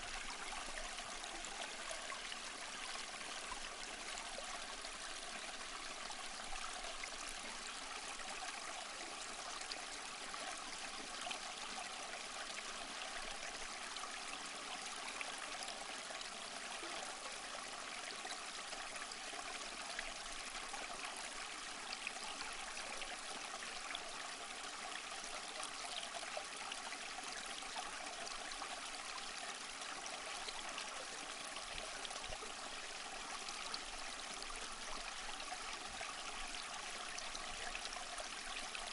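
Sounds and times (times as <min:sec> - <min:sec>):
small stream flowing: 0:00.0 - 0:38.9.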